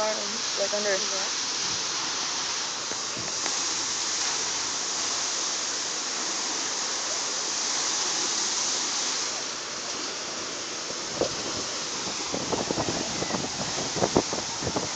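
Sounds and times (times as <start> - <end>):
water gushing and splashing: 0.0 - 14.9.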